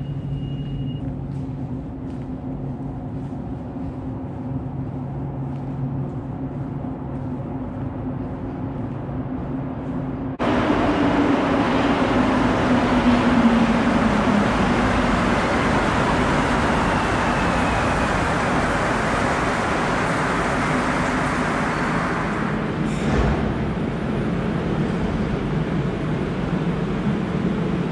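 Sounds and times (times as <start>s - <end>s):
metro train running noise: 0.0s - 27.9s.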